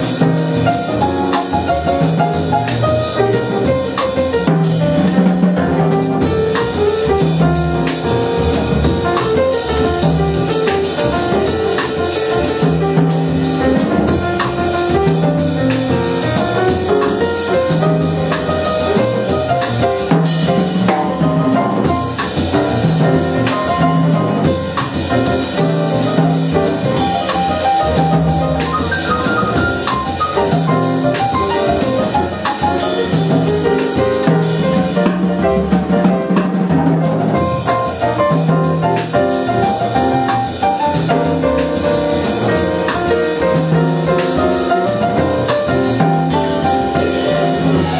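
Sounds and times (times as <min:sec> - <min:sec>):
drum kit with cymbals: 0:00.0 - 0:47.9
piano: 0:00.0 - 0:47.9
plucked double bass: 0:00.0 - 0:47.9.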